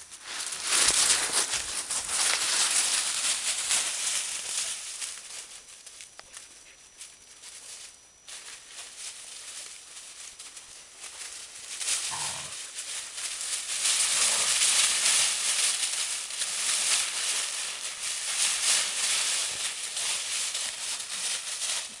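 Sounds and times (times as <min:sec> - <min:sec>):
dogs running through dry leaves: 0:00.0 - 0:22.0.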